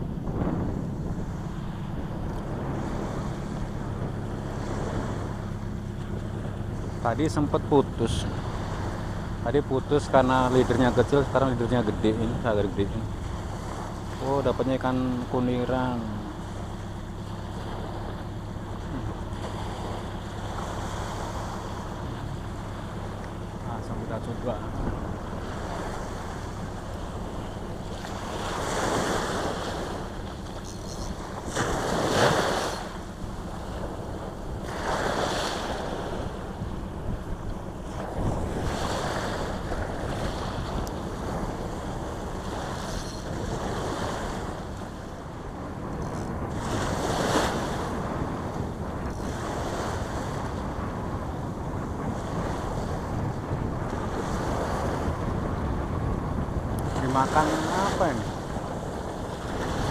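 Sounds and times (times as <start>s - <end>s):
small waves breaking on beach: 0.0s - 59.9s
wind buffeting microphone: 0.0s - 59.9s.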